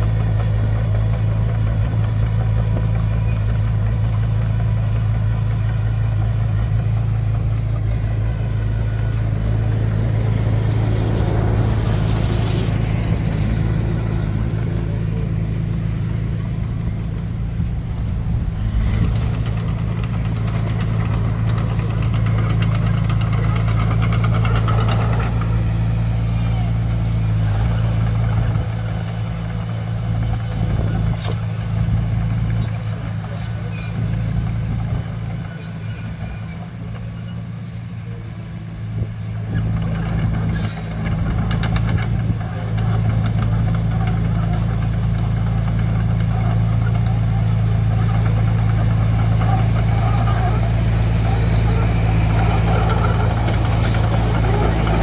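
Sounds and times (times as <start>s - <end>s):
vehicle engine running: 0.0s - 37.5s, 38.8s - 55.0s.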